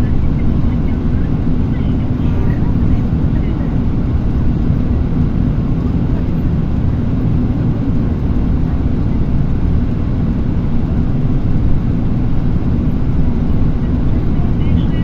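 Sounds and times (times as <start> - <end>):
tyre and engine rumble inside vehicle: 0.0 - 15.0.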